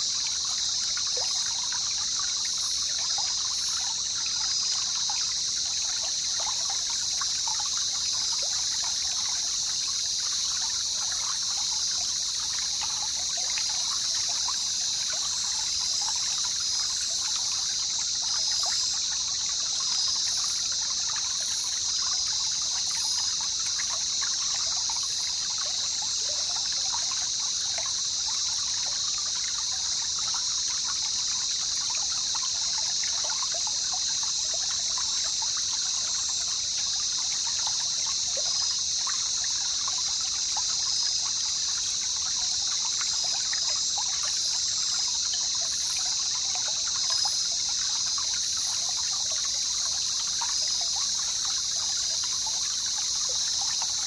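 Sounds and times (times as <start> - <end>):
water trickling and babbling: 0.0 - 54.0.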